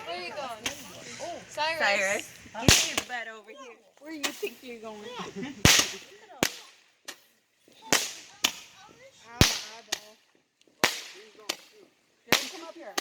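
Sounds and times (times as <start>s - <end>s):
fireworks cracking and banging: 0.0s - 3.4s, 4.0s - 13.0s.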